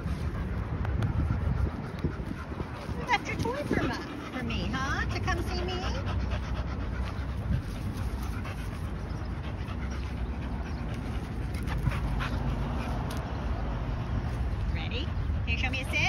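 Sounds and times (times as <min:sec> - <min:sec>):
dog panting: 0:00.0 - 0:14.6.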